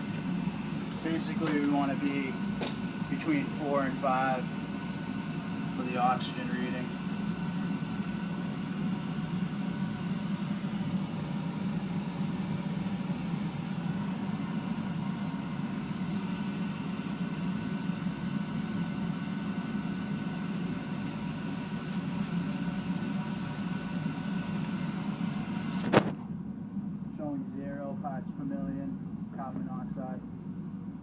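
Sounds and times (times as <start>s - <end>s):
gas burner humming: 0.0s - 31.0s.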